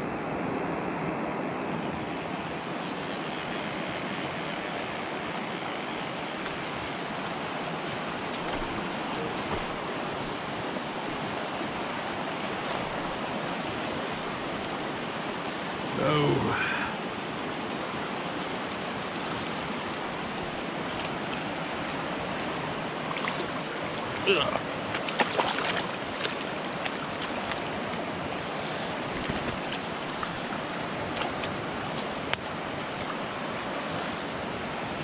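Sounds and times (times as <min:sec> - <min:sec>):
fast water rushing in creek: 0:00.0 - 0:35.0.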